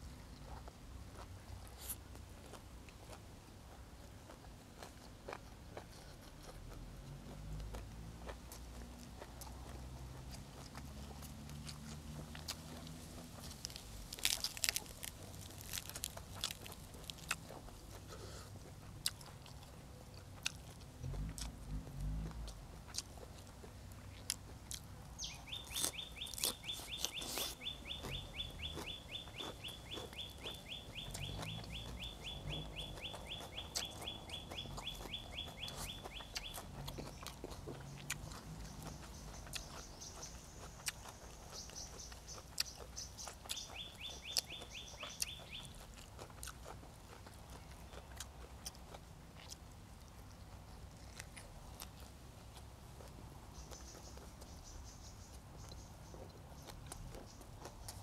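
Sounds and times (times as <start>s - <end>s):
chewing and crunching: 0.0s - 58.0s.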